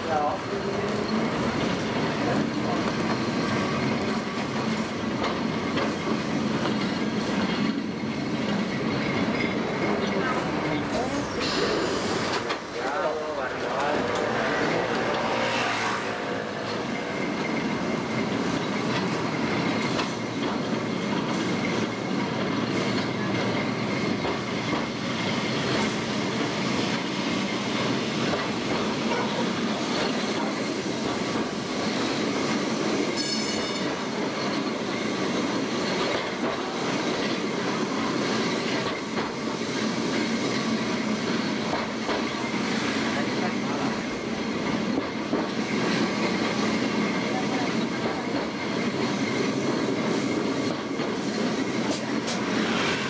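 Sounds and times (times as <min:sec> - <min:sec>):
tram rumbling and clacking on rails: 0:00.0 - 0:53.0.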